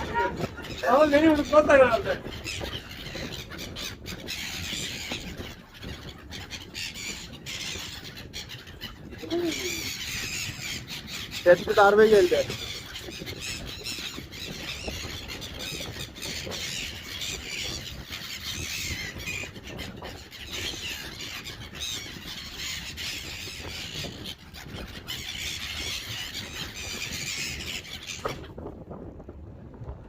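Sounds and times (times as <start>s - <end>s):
gulls calling: 0.0s - 28.6s.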